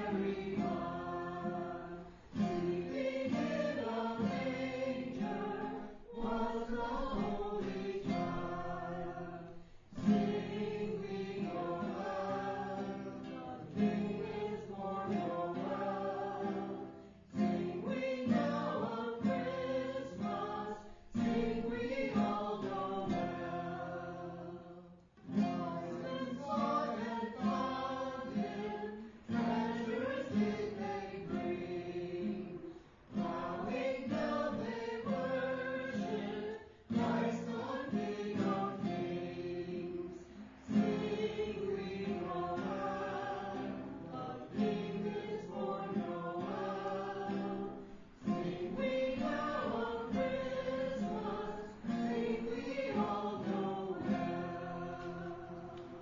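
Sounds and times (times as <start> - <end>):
acoustic guitar: 0.0 - 56.0
group singing a carol: 0.0 - 56.0.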